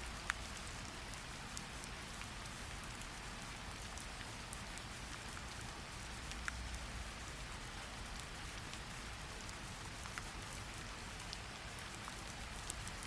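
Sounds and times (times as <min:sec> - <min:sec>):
steady rain hissing: 0:00.0 - 0:13.0.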